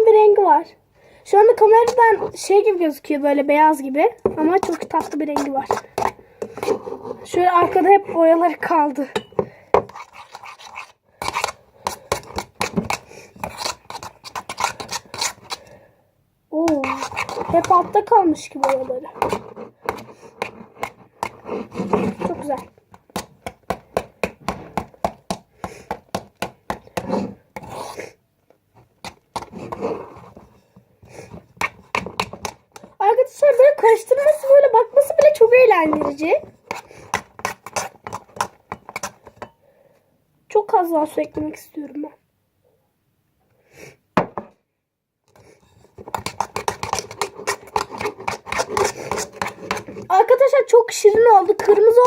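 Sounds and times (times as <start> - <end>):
utensil stirring slime: 1.3 - 15.9, 16.5 - 39.6, 45.3 - 52.0.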